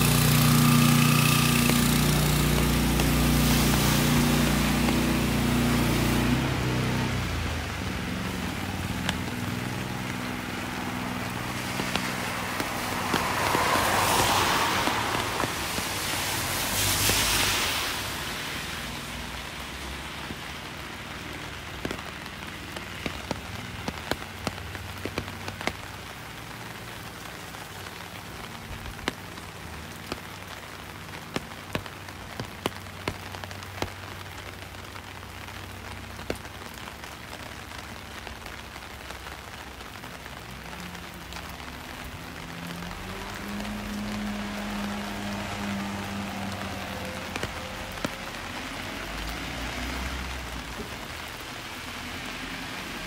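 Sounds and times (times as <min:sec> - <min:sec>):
raindrops ticking: 0:00.0 - 0:53.0
steady rain falling: 0:00.0 - 0:53.0.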